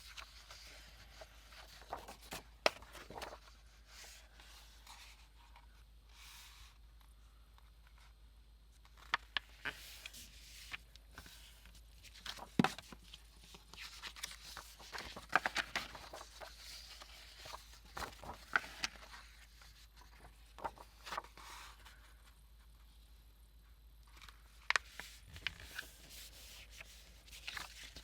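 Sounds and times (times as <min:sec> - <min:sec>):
paper rustling and sliding: 0:00.0 - 0:06.7, 0:08.9 - 0:22.4, 0:24.2 - 0:28.0.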